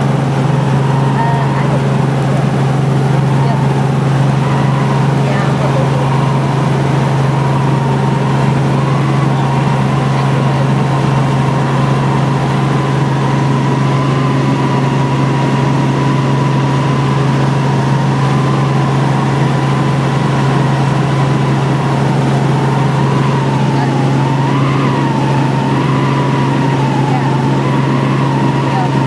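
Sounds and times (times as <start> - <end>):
helicopter low drone: 0.0 - 29.0
high wavering whine: 0.0 - 29.0.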